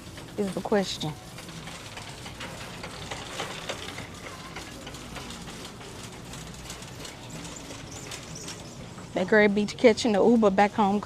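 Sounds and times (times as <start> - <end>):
faint clicks and rattles: 0.0 - 11.0
steady background hum: 0.0 - 11.0.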